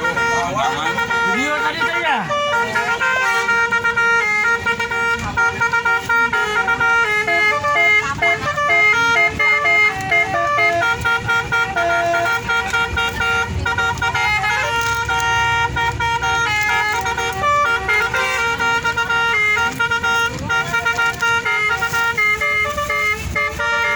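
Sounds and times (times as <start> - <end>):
bus air horns playing a tune: 0.0 - 23.9.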